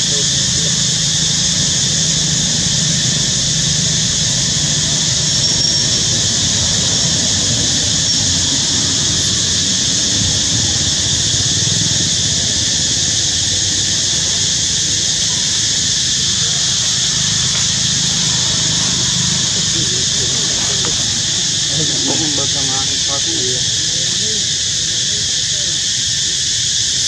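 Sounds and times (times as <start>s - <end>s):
continuous high hiss: 0.0s - 27.0s.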